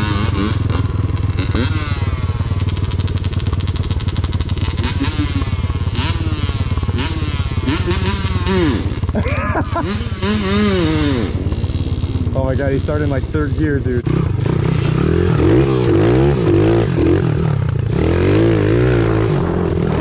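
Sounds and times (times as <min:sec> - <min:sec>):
engine revving: 0:00.0 - 0:20.0
engines droning: 0:00.0 - 0:20.0.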